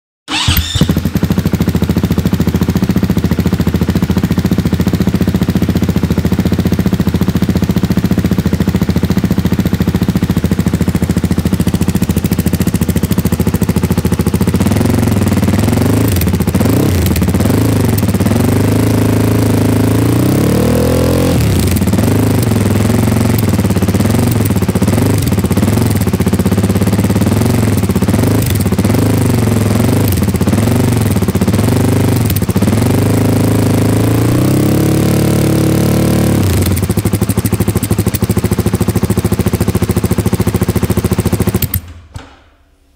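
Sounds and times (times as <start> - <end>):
motorcycle engine idling and revving: 0.3 - 42.5.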